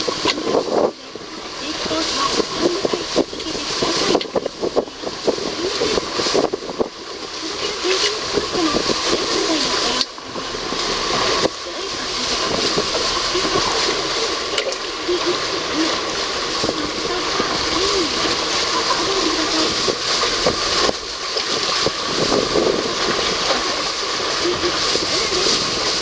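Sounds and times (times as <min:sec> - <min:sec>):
boat engine hum: 0:00.0 - 0:26.0
water splashing against hull: 0:00.0 - 0:26.0
wind: 0:00.0 - 0:26.0.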